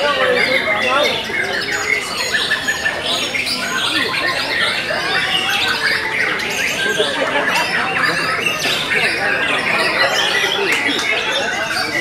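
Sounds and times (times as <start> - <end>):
songbirds whistling: 0.0 - 12.0.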